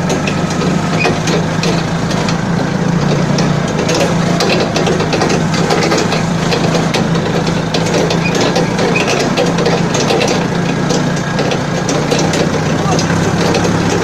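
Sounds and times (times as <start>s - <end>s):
forklift engine running: 0.0s - 14.0s
light clicks and clatter: 0.0s - 14.0s.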